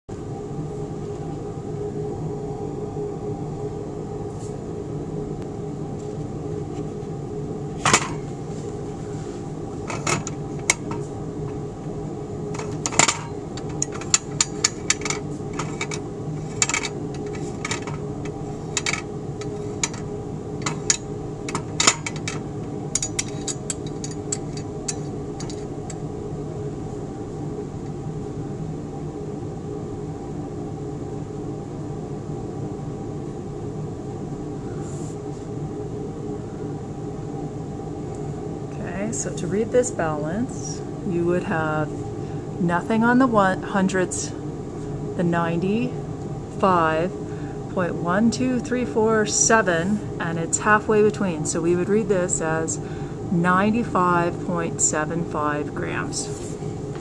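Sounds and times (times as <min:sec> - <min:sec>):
steady hum: 0:00.1 - 0:57.0.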